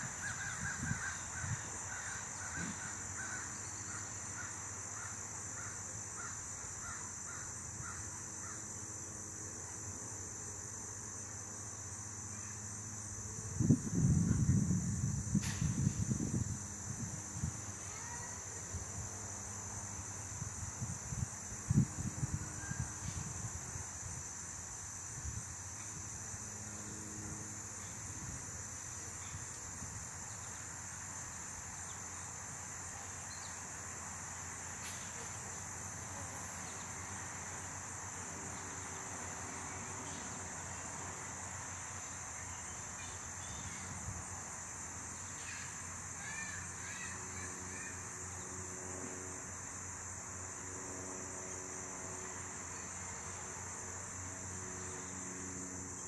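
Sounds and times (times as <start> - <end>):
high chirring of insects: 0.0 - 56.0.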